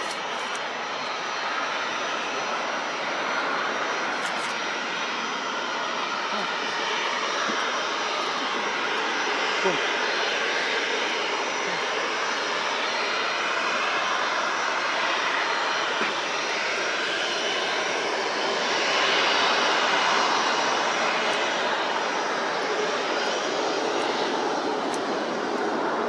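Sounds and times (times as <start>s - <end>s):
airliner engines rushing: 0.0s - 26.0s.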